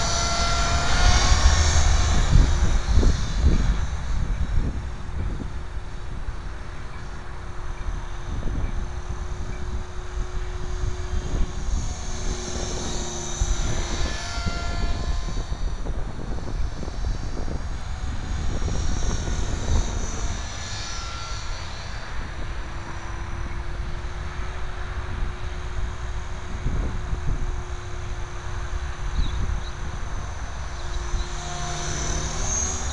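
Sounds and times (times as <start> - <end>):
helicopter motor whine and rotor hum: 0.0 - 32.9
wind rumbling on microphone: 0.0 - 32.9.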